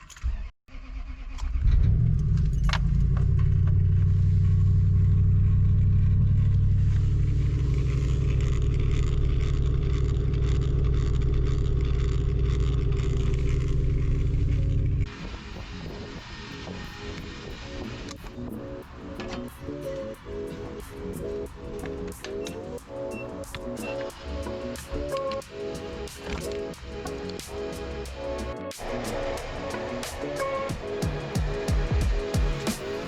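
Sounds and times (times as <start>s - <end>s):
vehicle engine starting and running: 0.2s - 33.0s.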